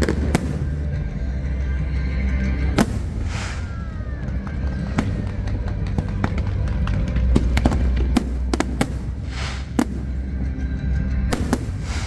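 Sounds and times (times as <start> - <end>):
fireworks bursting: 0.0 - 12.0
music: 0.0 - 12.0.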